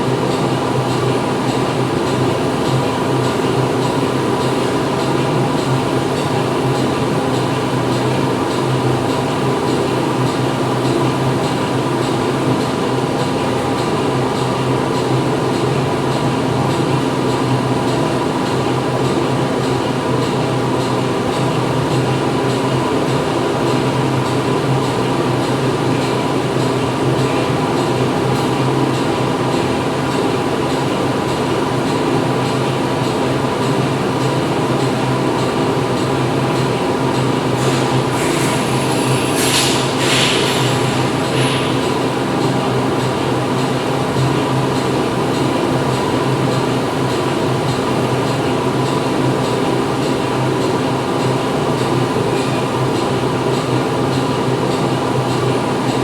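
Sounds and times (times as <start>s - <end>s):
factory machinery humming: 0.0s - 56.0s.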